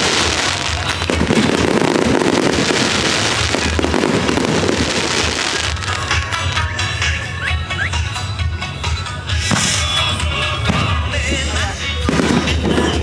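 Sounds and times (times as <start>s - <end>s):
fireworks bursting and crackling: 0.0s - 8.1s, 9.2s - 13.0s.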